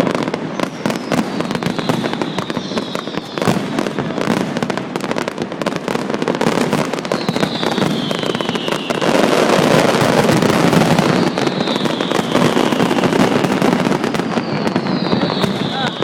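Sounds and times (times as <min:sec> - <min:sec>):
firework whistle gliding down: 0:00.0 - 0:04.4, 0:06.8 - 0:16.0
fireworks crackling and banging: 0:00.0 - 0:16.0.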